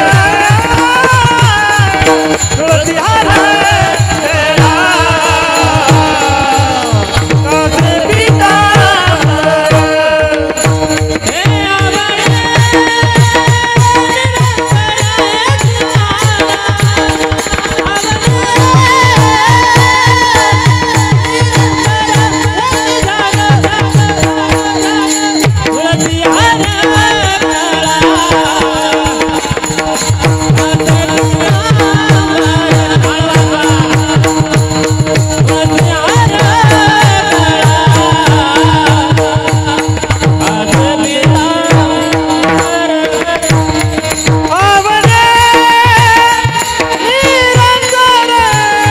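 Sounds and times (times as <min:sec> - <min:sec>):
hand drum with sliding notes: 0:00.0 - 0:48.9.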